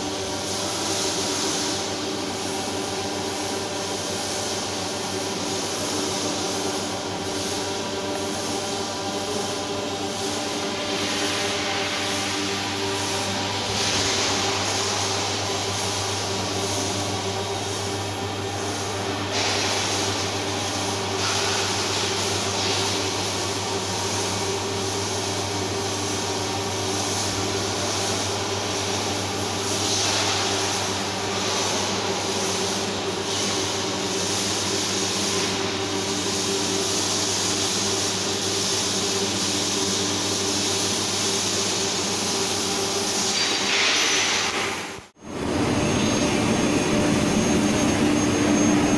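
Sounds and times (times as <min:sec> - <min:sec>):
machinery hum with tones: 0:00.0 - 0:48.9
hiss: 0:00.4 - 0:45.1.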